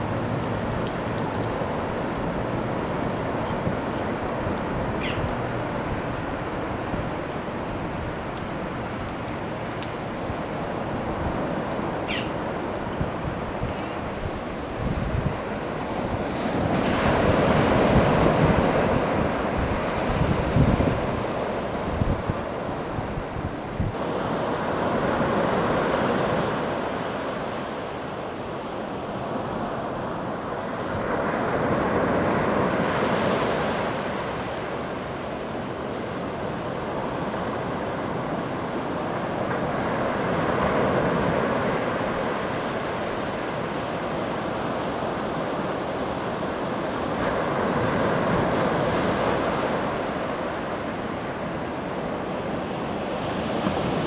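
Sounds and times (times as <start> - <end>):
ocean surf washing: 0.0 - 54.0
wind rumble on microphone: 0.0 - 54.0.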